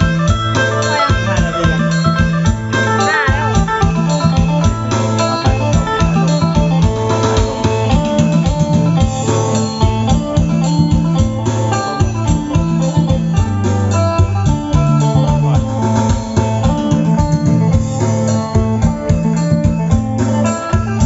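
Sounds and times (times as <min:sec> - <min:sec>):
loud music through speakers: 0:00.0 - 0:21.0.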